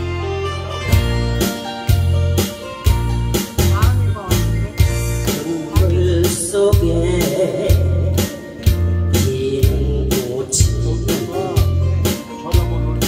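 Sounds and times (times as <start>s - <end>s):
acoustic guitar: 0.0s - 13.0s
repeating bass line: 0.0s - 13.0s
steady beat: 0.0s - 13.0s.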